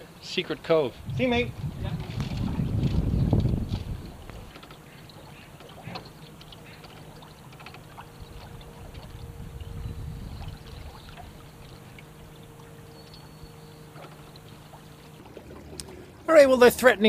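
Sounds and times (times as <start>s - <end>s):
outboard motor running: 0.0s - 17.0s
water lapping against boat hull: 0.5s - 17.0s.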